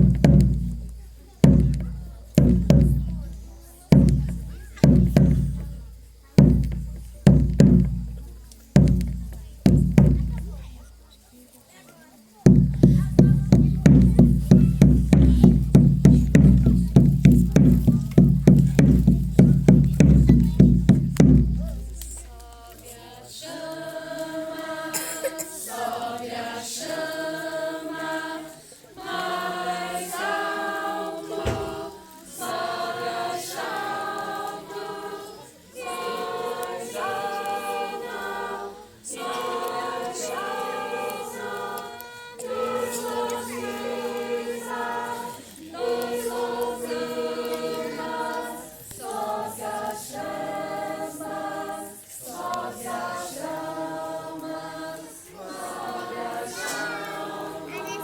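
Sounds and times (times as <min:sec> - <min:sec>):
group of voices singing: 0:00.0 - 0:10.8, 0:12.5 - 0:58.0.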